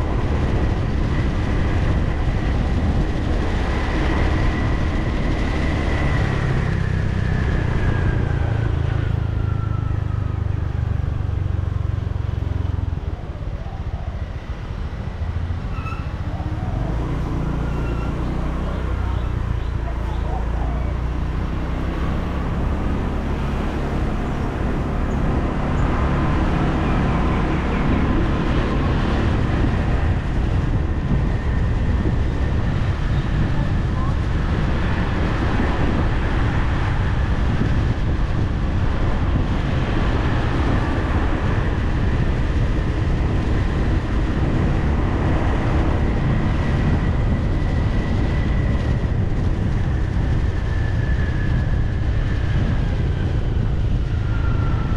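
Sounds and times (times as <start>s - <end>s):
wind and road noise: 0.0s - 54.9s.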